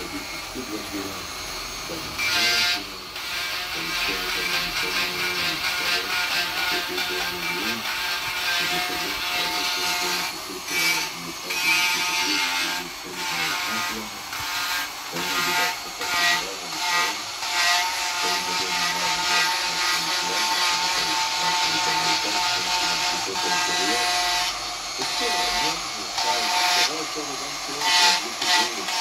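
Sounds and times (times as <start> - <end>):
hand tool scraping wood: 1.9 - 29.0.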